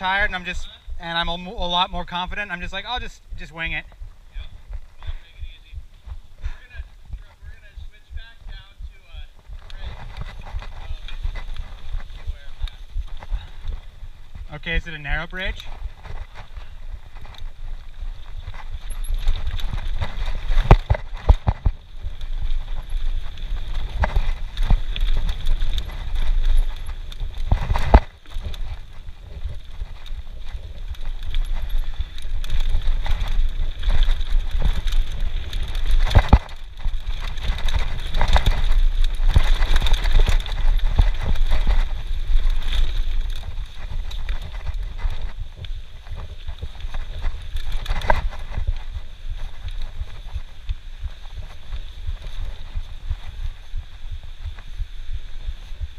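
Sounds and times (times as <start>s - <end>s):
tyres rumbling over dirt: 0.0s - 5.4s, 6.0s - 55.9s
bike rattling and clattering: 0.0s - 55.9s.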